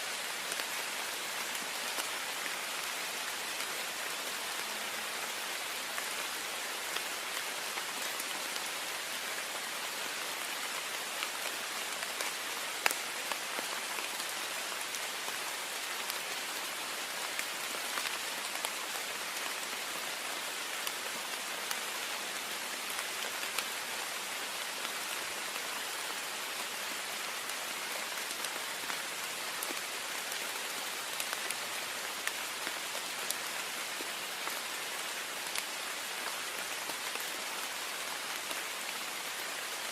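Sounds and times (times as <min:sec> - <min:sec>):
heavy rain on a window: 0:00.1 - 0:39.9.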